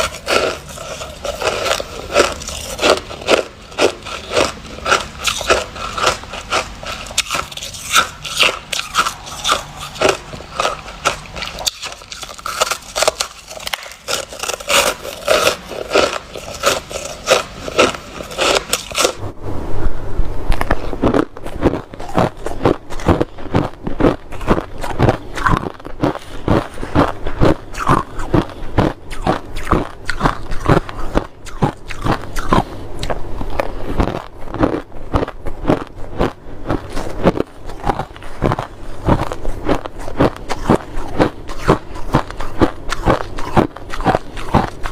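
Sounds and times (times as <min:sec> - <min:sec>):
person chewing crunchy ice: 0:00.0 - 0:19.2, 0:21.0 - 0:44.9.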